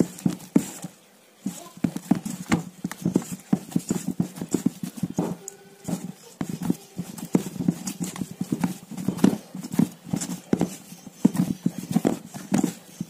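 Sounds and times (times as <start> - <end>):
dough thumping in a steel bowl: 0.0 - 13.0.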